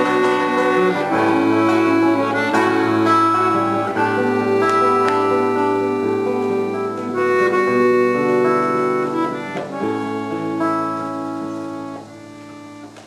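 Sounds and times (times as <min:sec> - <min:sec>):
accordion playing slow chords: 0:00.0 - 0:13.0.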